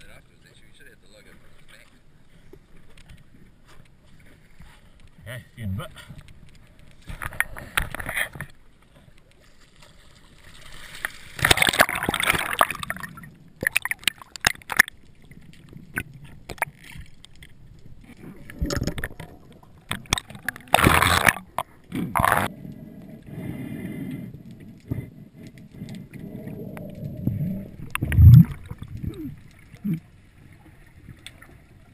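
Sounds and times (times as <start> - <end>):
water splashing and gurgling: 1.2 - 31.9
underwater bubbling: 1.4 - 31.9.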